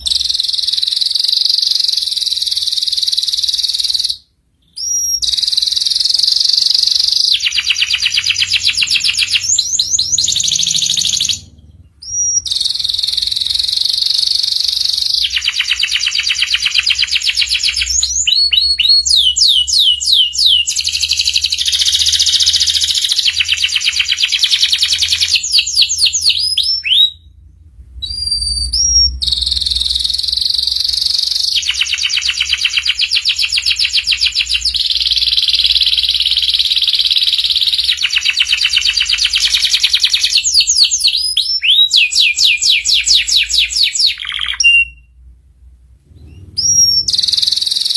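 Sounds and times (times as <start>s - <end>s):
canary singing trills: 0.0s - 45.3s, 46.1s - 47.9s.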